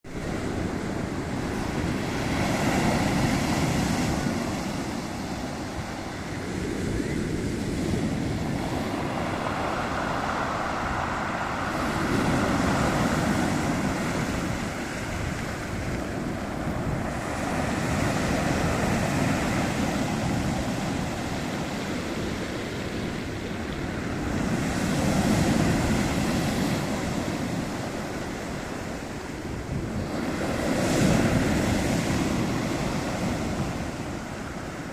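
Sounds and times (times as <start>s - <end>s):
waves washing ashore: 0.1s - 34.9s.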